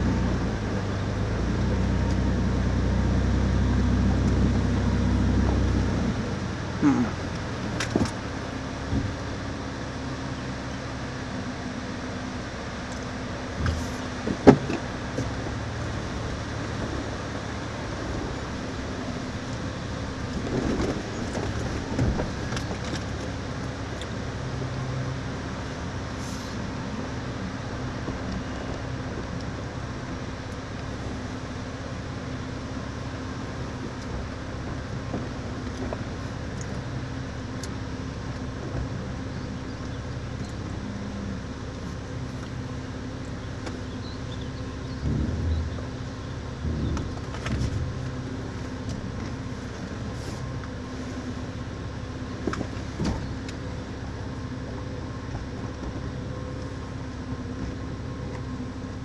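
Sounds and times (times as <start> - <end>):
motor vehicle running: 0.0 - 59.0.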